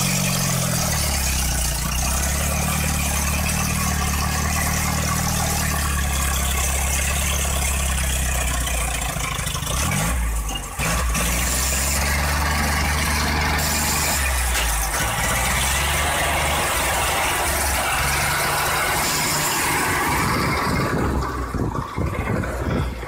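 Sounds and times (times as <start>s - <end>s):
truck engine running under load: 0.0s - 23.0s.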